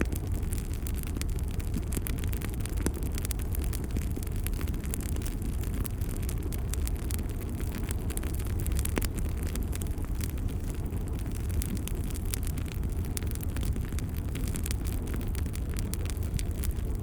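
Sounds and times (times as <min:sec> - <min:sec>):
fire pops and snaps: 0:00.0 - 0:17.0
low rumble of flames: 0:00.0 - 0:17.0.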